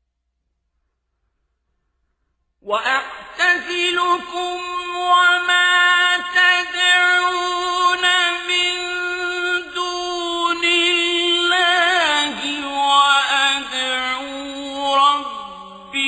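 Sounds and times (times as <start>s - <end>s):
man chanting recitation: 2.6s - 16.0s.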